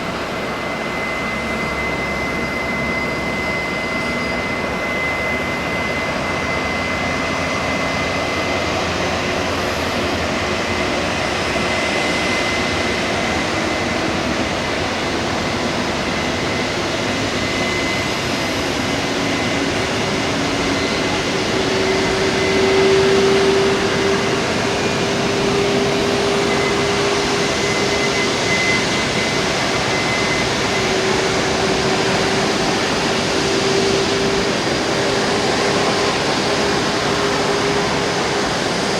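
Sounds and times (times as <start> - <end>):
jet engine noise: 0.0 - 38.9
turbine spooling up: 0.0 - 38.9.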